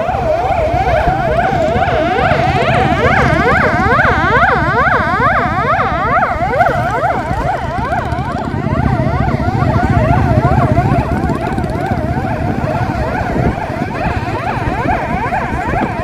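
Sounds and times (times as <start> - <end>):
engines and road wind rumble: 0.0 - 16.0
police sirens warbling: 0.0 - 16.0.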